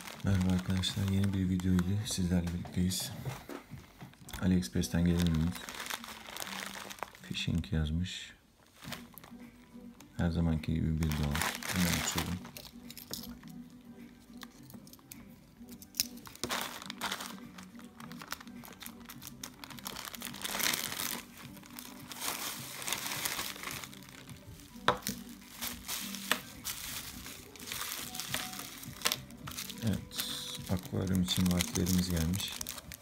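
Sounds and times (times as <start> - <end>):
plastic packaging crinkling: 0.0 - 3.0, 4.0 - 7.8, 8.6 - 9.4, 10.7 - 13.4, 14.4 - 33.0.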